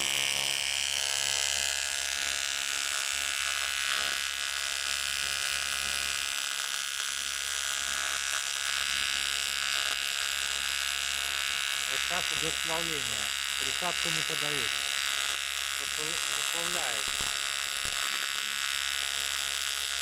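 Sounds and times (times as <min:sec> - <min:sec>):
welding arc buzzing: 0:00.0 - 0:20.0.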